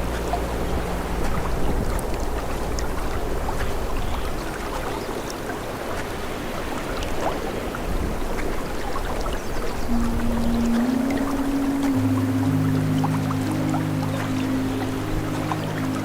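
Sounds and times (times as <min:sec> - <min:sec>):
rushing river water: 0:00.0 - 0:16.0.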